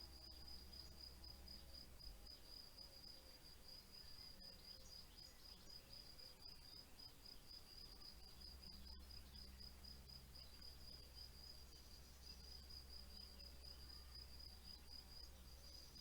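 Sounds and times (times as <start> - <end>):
faint cricket chirping: 0.0 - 16.0.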